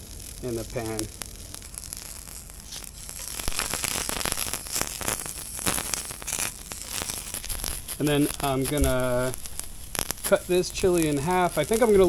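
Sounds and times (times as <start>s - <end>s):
vegetables crackling in hot pan: 0.0s - 12.0s.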